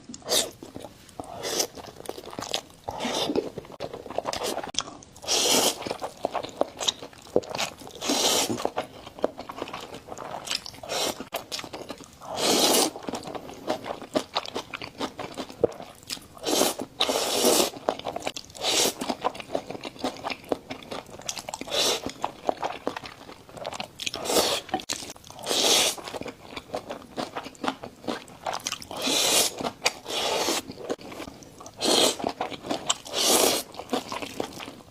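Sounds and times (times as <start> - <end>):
chewing crunchy noodles: 0.1 - 34.9.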